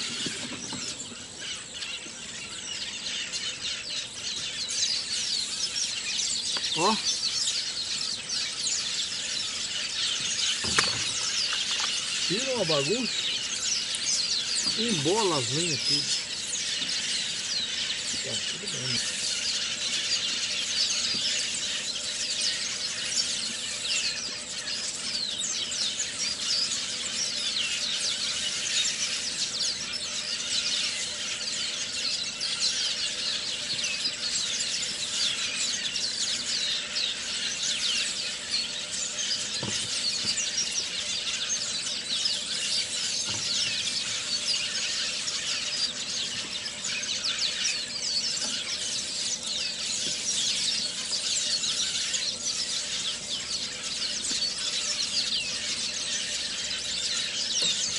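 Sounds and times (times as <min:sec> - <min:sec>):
chorus of high-pitched chirps: 0:00.0 - 0:57.9.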